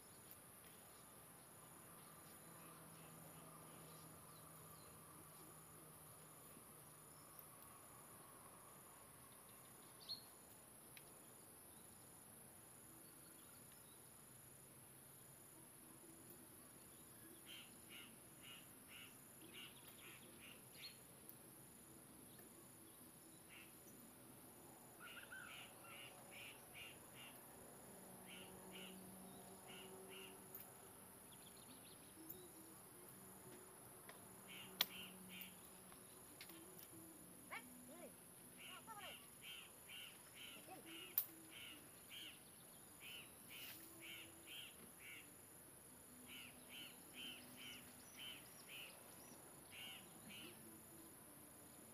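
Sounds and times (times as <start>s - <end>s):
faint low hum: 0.0s - 51.9s
insect buzz: 0.0s - 51.9s
insect chirp: 0.0s - 51.9s.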